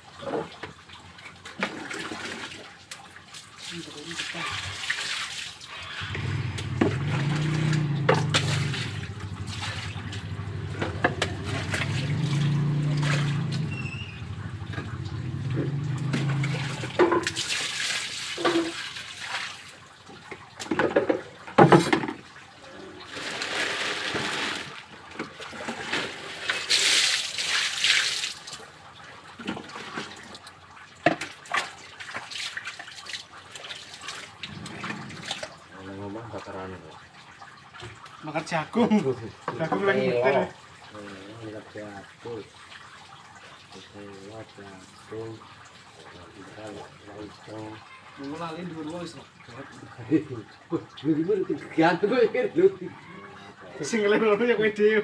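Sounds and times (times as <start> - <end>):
water poured into basin: 1.2 - 54.0.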